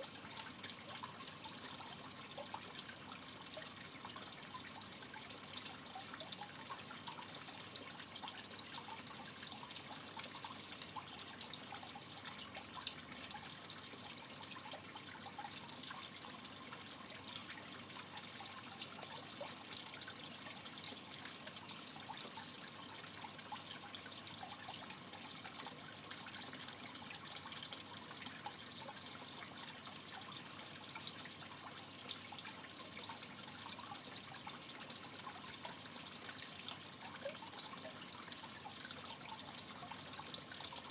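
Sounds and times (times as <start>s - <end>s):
aquarium water trickling: 0.0s - 40.9s
faint high-pitched whine: 0.0s - 40.9s.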